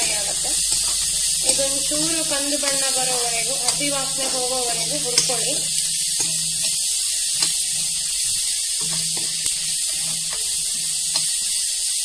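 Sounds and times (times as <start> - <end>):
onions sizzling in hot oil: 0.0 - 12.0
steel spoon scraping pan: 0.0 - 12.0.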